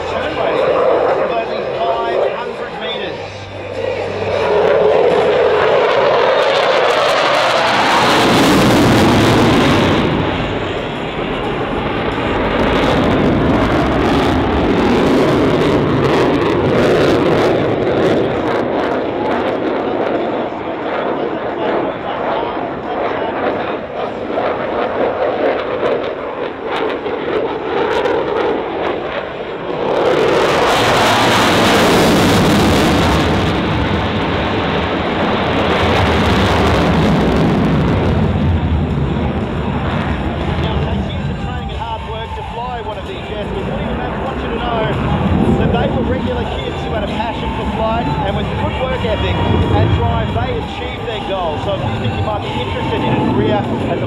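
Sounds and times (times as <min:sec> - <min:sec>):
loud jet engine noise: 0:00.0 - 0:54.0.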